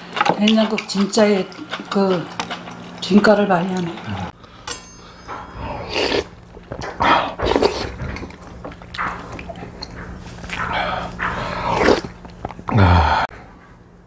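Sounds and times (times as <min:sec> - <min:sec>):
eating sounds: 0:00.0 - 0:04.6, 0:05.5 - 0:13.4.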